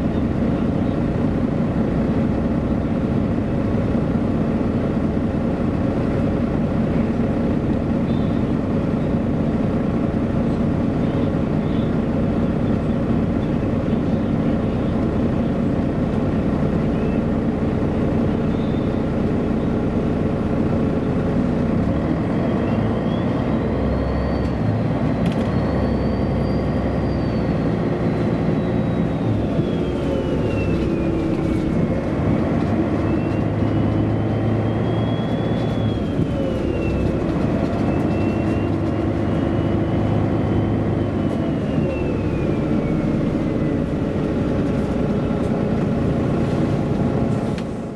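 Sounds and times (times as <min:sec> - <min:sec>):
bus engine running: 0:00.0 - 0:47.9.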